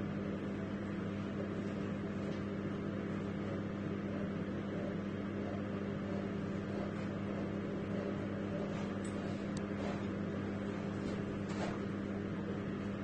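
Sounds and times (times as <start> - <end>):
mechanical hum with low drone: 0.0 - 13.0.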